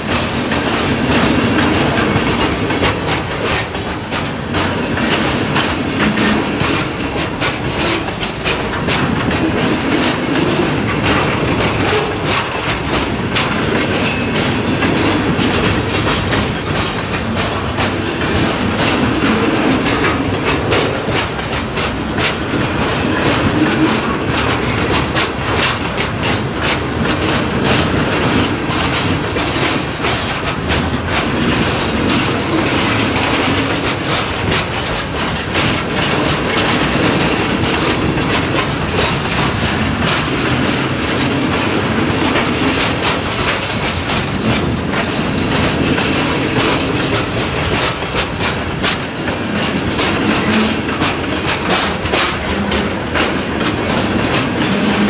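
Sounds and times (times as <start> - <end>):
steel wheels rumbling on rail: 0.0 - 55.0
wheels clicking over rail joints: 0.0 - 55.0.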